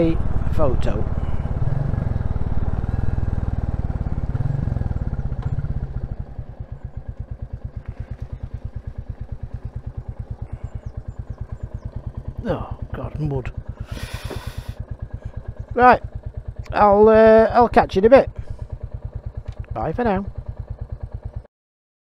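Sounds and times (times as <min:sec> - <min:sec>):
motorcycle engine idling: 0:00.0 - 0:21.5.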